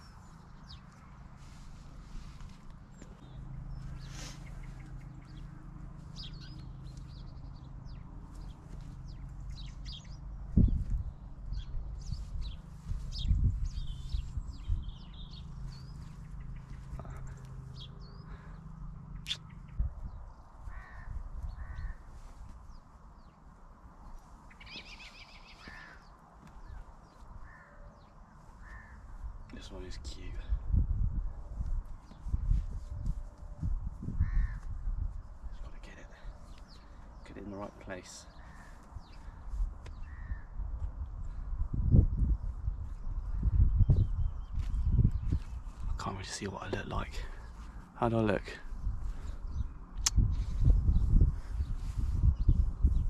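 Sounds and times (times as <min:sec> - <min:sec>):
birds calling: 0:00.0 - 0:30.6, 0:31.9 - 0:53.0
steady low hum: 0:00.0 - 0:53.0.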